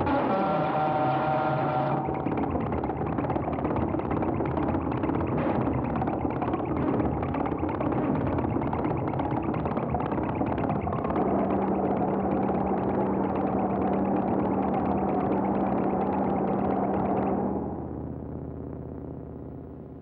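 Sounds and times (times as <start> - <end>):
noisy machine-like pulsing drone: 0.0 - 20.0.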